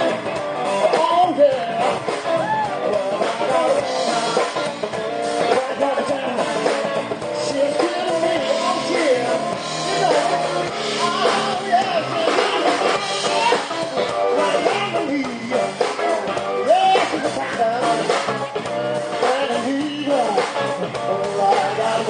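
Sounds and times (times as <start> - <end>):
bass guitar: 0.0 - 22.0
drums: 0.0 - 22.0
electric guitar: 0.0 - 22.0
person singing: 0.0 - 22.0.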